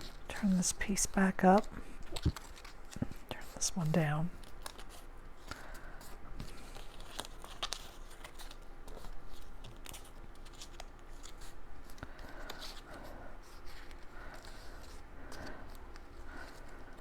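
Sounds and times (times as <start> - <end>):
cardstock rustling and crackling: 0.0 - 17.0.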